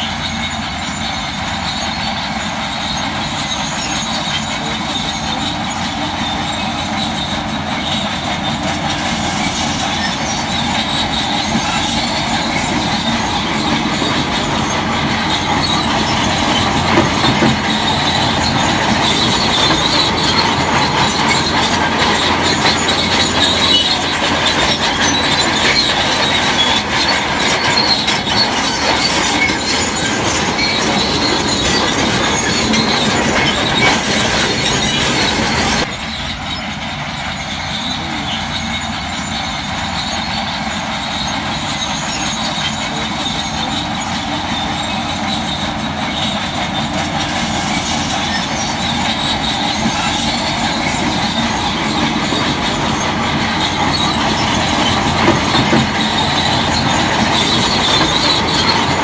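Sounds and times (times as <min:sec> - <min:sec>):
bulldozer engine running: 0:00.0 - 0:59.0
steel tracks squealing and clanking: 0:00.0 - 0:59.0.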